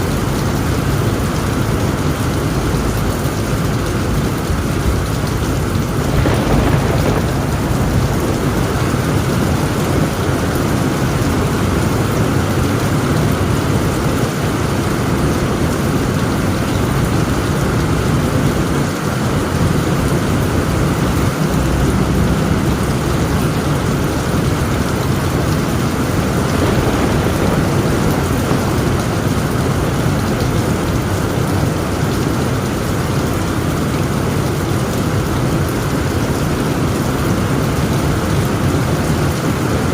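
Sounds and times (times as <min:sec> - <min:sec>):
heavy rain on a tent roof: 0:00.0 - 0:39.9
low rumble of thunder: 0:00.1 - 0:39.9.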